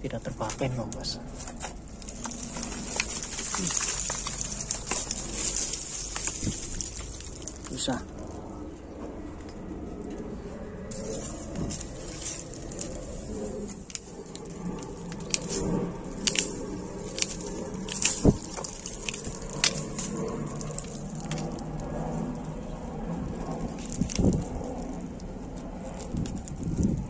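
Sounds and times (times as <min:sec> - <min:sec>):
roots snapping and crackling: 0:00.0 - 0:27.0
rustling: 0:00.3 - 0:08.4, 0:10.9 - 0:27.0.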